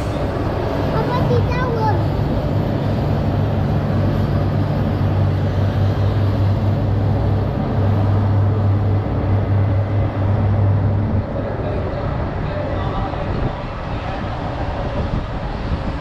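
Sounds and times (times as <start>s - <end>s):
even rushing noise: 0.0s - 16.0s
vehicle low hum: 0.0s - 16.0s.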